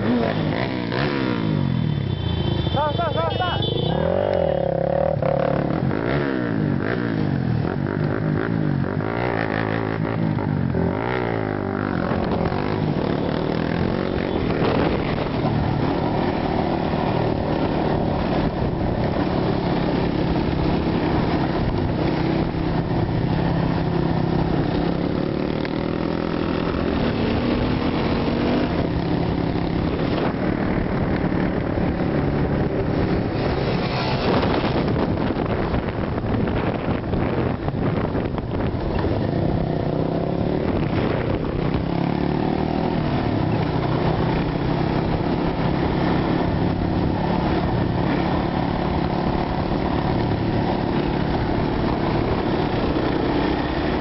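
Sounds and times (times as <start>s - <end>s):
off-road motorcycle engines revving: 0.0s - 54.0s.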